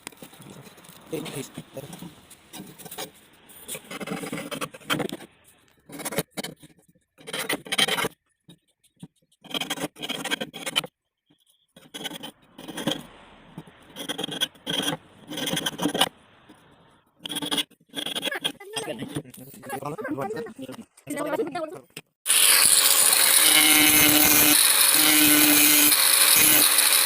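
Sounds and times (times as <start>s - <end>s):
hand file scraping: 0.0s - 19.5s, 22.3s - 27.0s.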